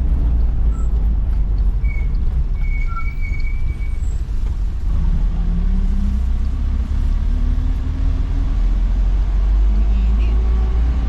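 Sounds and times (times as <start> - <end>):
heavy road rumble: 0.0 - 11.0
vehicle engine accelerating: 0.0 - 11.0.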